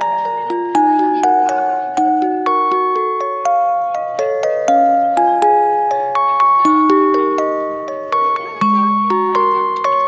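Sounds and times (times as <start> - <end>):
music box melody: 0.0 - 10.0.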